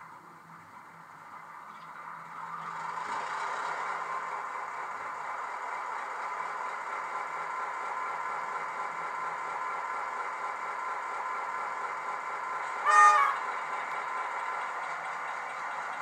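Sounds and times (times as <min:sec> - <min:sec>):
model locomotive diesel engine sound: 0:00.0 - 0:16.0.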